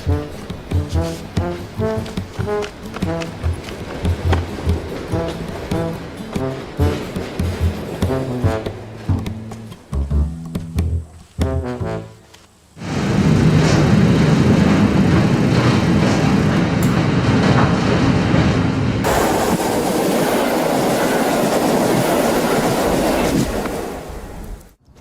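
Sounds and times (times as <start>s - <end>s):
train wheel clatter: 0.0s - 9.9s, 12.8s - 24.6s
train rumbling on rails: 0.0s - 11.9s, 12.8s - 24.8s.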